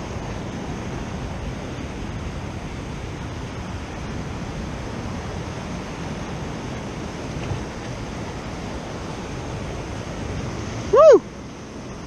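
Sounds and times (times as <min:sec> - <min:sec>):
ocean surf breaking on rocks: 0:00.0 - 0:12.0
wind noise on microphone: 0:00.0 - 0:12.0.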